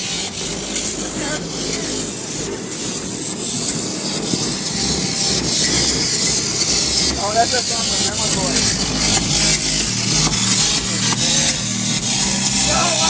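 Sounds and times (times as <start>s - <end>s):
loud car stereo music: 0.0s - 13.0s.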